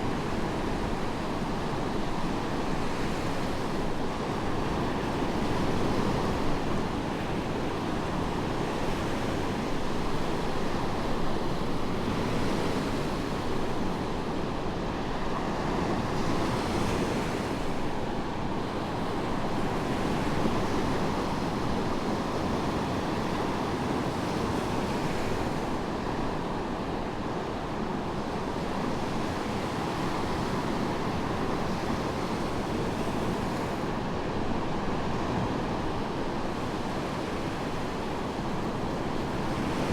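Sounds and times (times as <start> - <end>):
waves breaking on sandy beach: 0.0 - 39.9.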